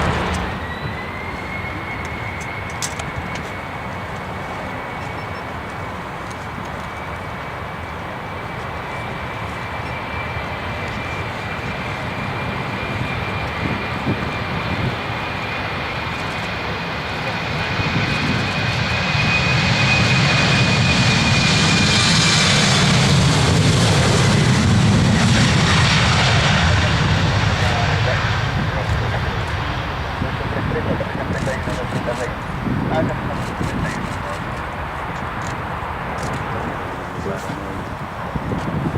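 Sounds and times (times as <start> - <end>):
jet engine high whine: 0.0 - 38.9
jet engine low rumble: 0.0 - 38.9.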